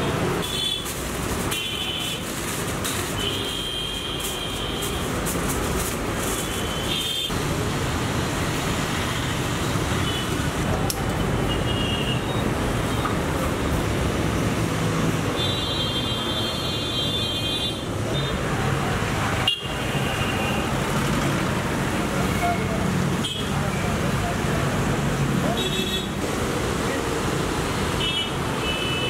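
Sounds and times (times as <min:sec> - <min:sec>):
street traffic: 0:00.0 - 0:29.0.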